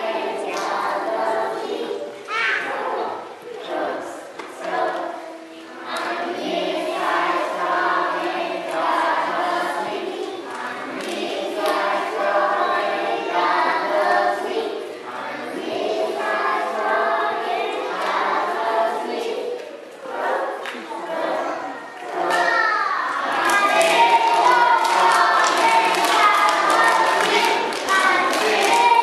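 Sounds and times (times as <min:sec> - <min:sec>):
children's choir singing: 0:00.0 - 0:29.0.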